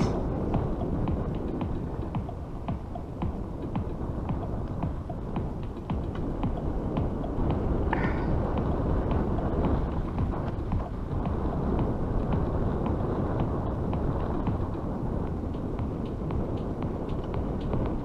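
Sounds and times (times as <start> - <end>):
bicycle ticks and rattles: 0.0 - 18.0
wind rumbling on microphone: 0.0 - 18.0.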